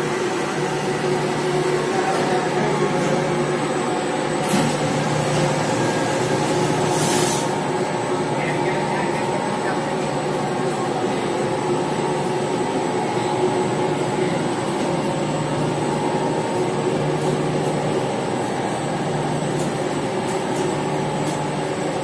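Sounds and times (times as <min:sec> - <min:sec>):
laundry machines humming: 0:00.0 - 0:22.0.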